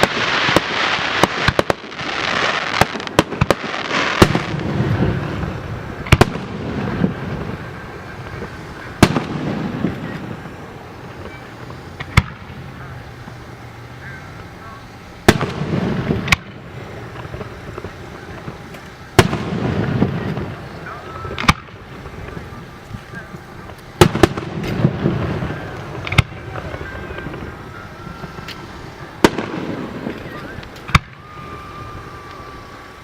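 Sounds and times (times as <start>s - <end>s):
firework shells bursting: 0.0s - 33.0s.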